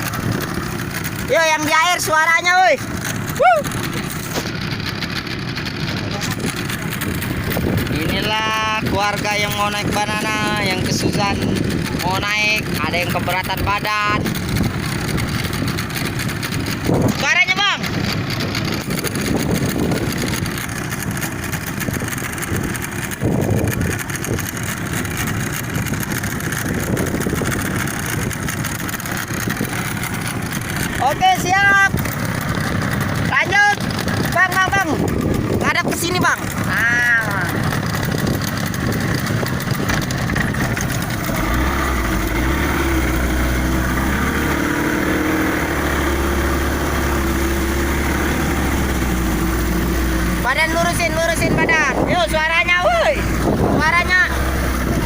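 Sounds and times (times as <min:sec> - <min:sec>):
motorboat engine idling: 0:00.0 - 0:55.0.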